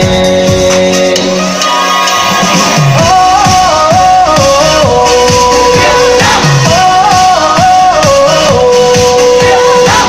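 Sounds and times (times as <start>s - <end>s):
pop dance music: 0.0s - 10.0s.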